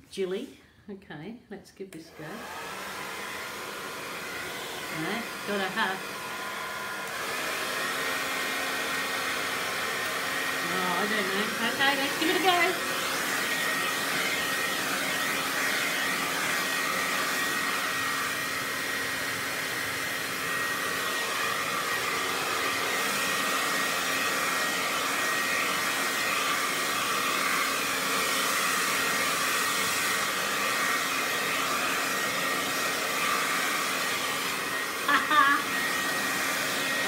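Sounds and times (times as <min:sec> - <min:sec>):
hair dryer running: 0:01.9 - 0:37.0.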